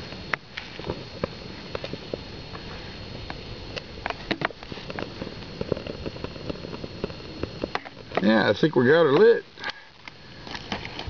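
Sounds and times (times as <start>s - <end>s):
fire starters crackling: 0.0s - 11.0s
steady hiss: 0.0s - 11.0s.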